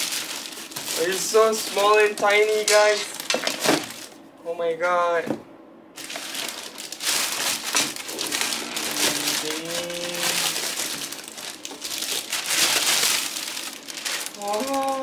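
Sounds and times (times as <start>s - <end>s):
plastic bag crinkling: 0.0s - 4.2s, 6.0s - 15.0s.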